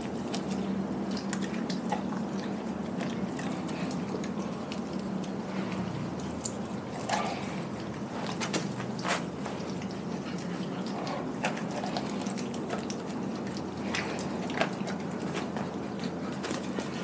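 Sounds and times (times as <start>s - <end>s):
dog licking and chewing: 0.0s - 17.0s.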